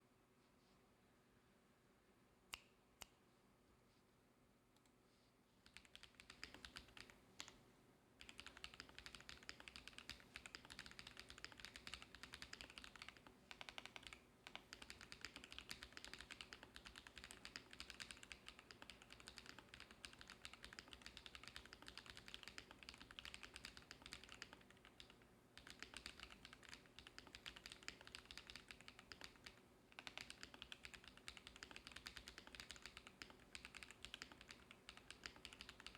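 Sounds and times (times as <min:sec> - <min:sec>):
mechanical keyboard typing: 0:05.7 - 0:07.6, 0:08.2 - 0:35.9.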